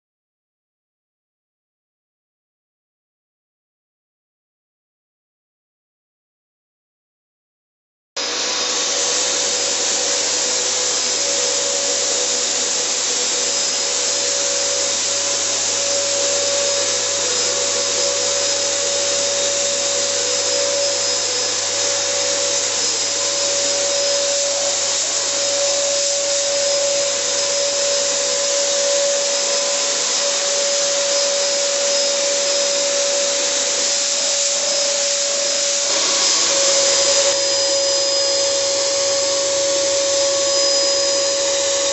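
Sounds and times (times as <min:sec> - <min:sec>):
fogger blower motor whining: 0:08.2 - 0:41.9.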